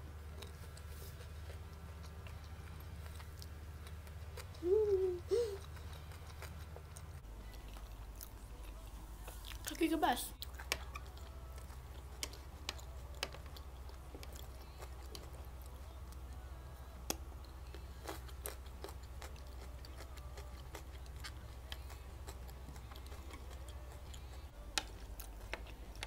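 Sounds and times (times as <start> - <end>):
steady low hum: 0.0 - 26.0
close-up chewing with clicks: 0.3 - 4.6, 5.6 - 9.8, 10.4 - 16.4, 17.0 - 26.0.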